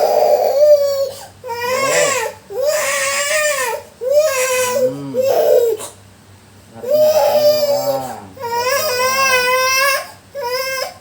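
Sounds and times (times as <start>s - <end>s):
small child crying: 0.0s - 5.9s, 6.8s - 11.0s.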